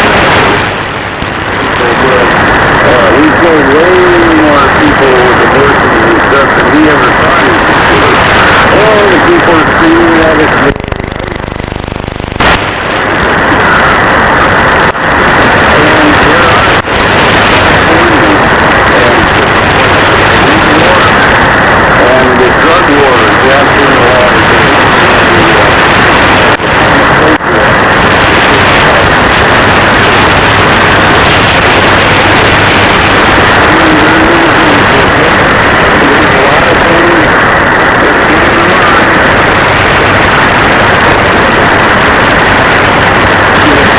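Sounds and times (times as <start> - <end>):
faint radio station: 0.0 - 43.9
radio static hiss: 0.0 - 43.9
rapid interference buzz: 0.0 - 43.9
weak broadcast voice: 0.0 - 43.9.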